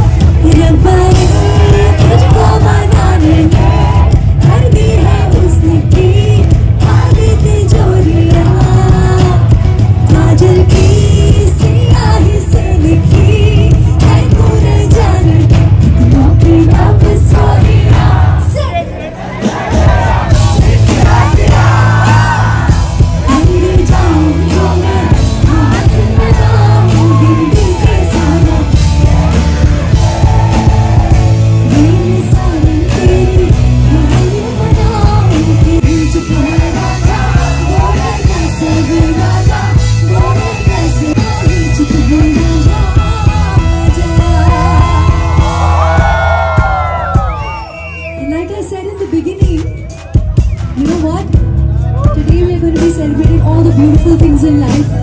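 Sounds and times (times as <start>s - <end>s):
woman singing into a microphone: 0.0s - 18.9s, 20.6s - 29.2s, 31.0s - 47.4s, 48.2s - 49.9s, 52.1s - 55.0s
amplified band with heavy bass: 0.0s - 55.0s.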